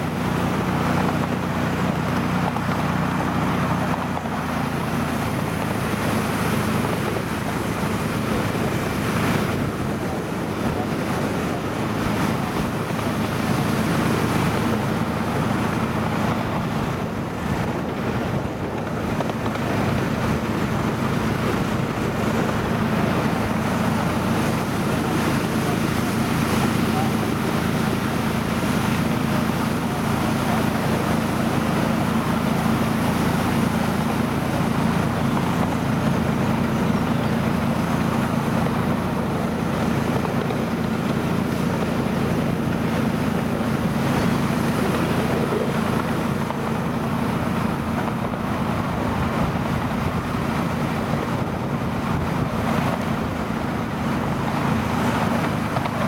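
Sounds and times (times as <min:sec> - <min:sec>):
diesel locomotive engine droning: 0:00.0 - 0:56.0
train running noise: 0:00.0 - 0:56.0
wind on microphone: 0:00.0 - 0:56.0.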